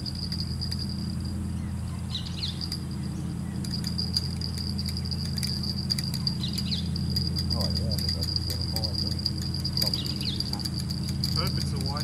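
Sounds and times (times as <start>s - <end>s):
insect trilling high-pitched: 0.0s - 11.9s
low steady rumble: 0.0s - 12.0s.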